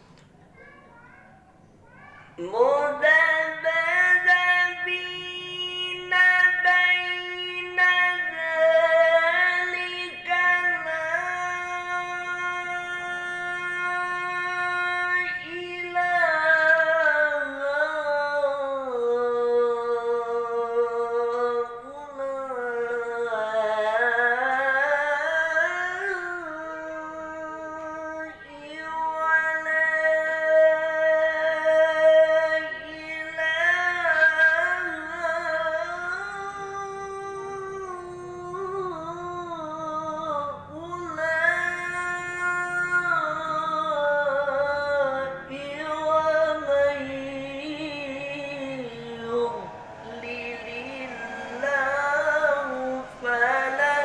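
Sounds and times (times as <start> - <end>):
man reciting melodically: 2.4 - 54.0.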